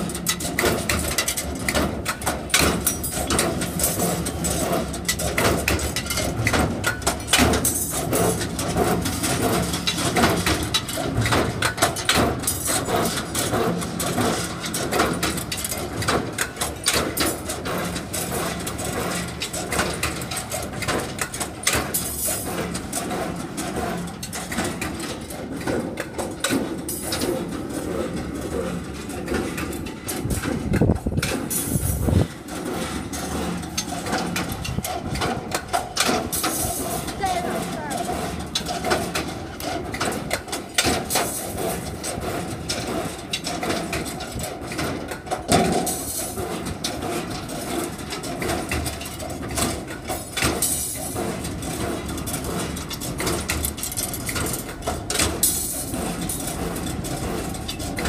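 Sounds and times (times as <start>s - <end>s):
metal clattering and knocking: 0.0s - 58.0s.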